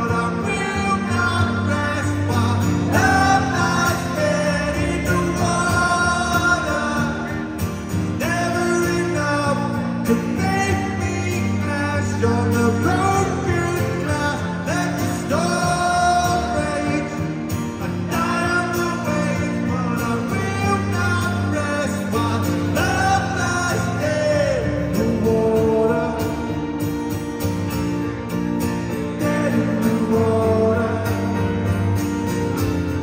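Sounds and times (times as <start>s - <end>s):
man singing: 0.0s - 26.9s, 28.9s - 31.8s
acoustic guitar: 0.0s - 33.0s.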